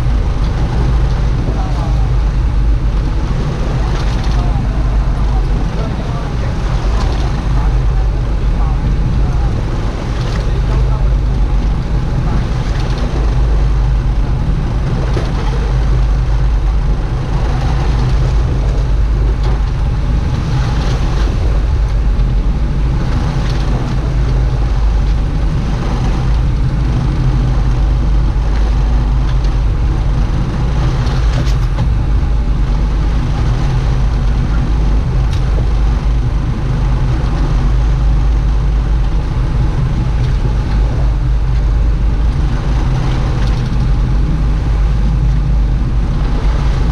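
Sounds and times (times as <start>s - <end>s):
boat engine droning: 0.0s - 46.9s
water rushing: 0.0s - 46.9s.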